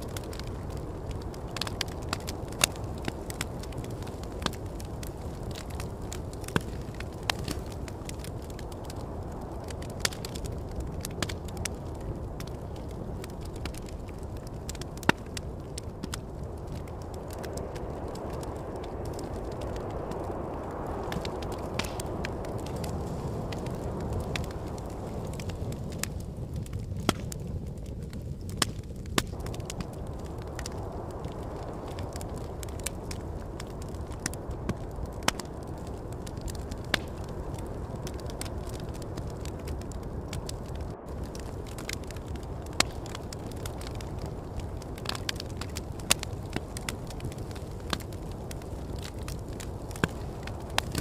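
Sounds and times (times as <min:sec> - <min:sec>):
low rush of wind: 0:00.0 - 0:51.0
sharp pops from fire: 0:00.0 - 0:51.0
wood fire crackling: 0:00.0 - 0:51.0.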